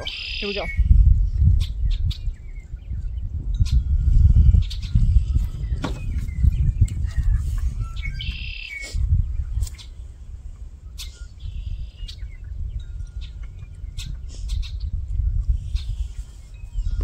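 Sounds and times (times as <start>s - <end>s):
songbird chirping: 0.0s - 3.9s, 4.5s - 17.0s
wind buffeting microphone: 0.0s - 17.0s.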